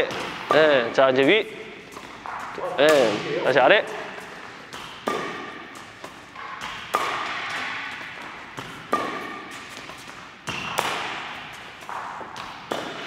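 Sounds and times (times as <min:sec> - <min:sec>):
racket hitting shuttlecock: 0:00.0 - 0:13.0.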